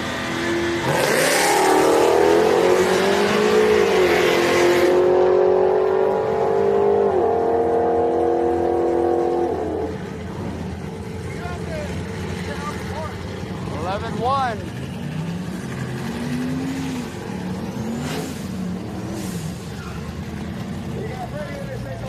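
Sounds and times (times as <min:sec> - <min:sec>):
truck engine accelerating hard: 0:00.0 - 0:22.0.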